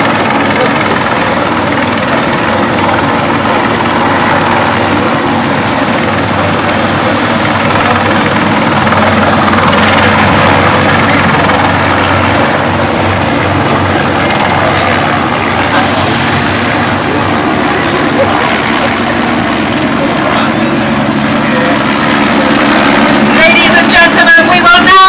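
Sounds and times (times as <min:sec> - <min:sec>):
loud mechanical drone: 0:00.0 - 0:25.0.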